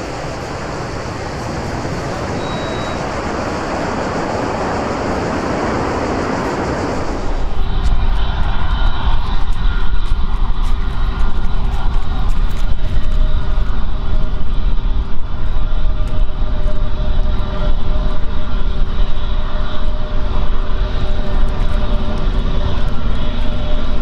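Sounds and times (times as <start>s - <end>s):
jet engines running steadily: 0.0s - 24.0s.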